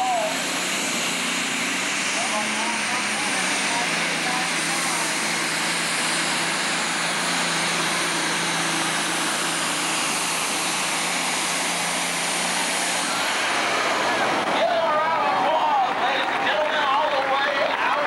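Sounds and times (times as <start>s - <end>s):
diesel engine roaring: 0.0s - 18.0s.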